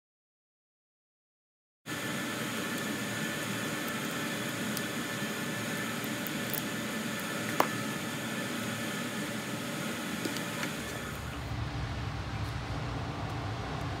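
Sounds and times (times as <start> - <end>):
workshop hiss: 1.9 - 14.0.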